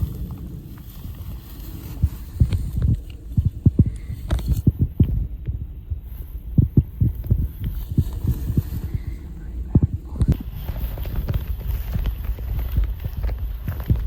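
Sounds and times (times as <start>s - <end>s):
footsteps on rough ground: 0.0s - 14.0s.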